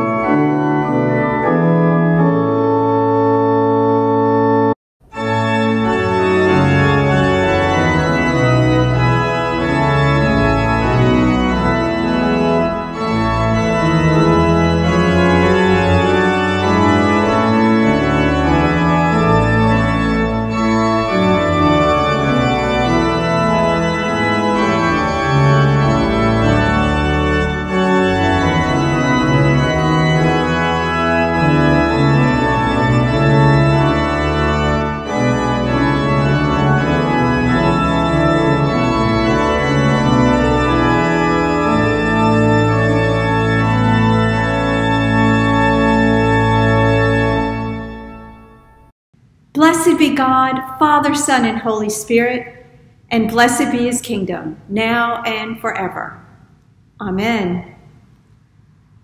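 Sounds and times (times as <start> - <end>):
organ music: 0.0 - 48.9.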